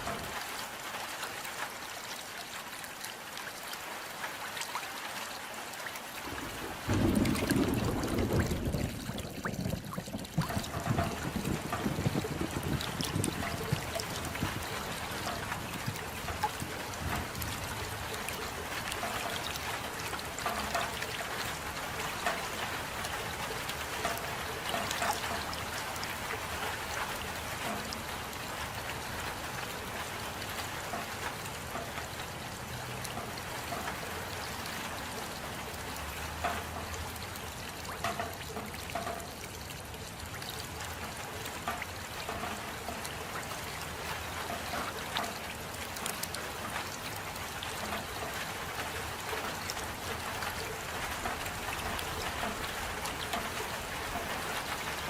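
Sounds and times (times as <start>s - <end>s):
steady rain: 0.0s - 55.0s
trickling water: 0.0s - 55.0s.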